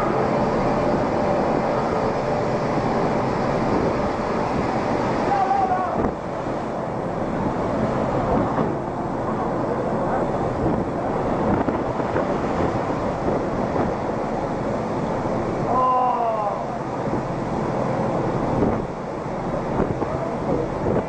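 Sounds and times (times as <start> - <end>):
wind buffeting microphone: 0.0 - 15.6, 17.0 - 21.0
storm wind: 0.0 - 21.0
waves breaking over deck: 0.0 - 21.0.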